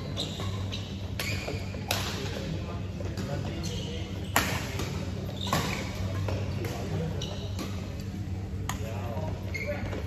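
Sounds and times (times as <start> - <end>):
shoes squeaking on court: 0.0 - 10.0.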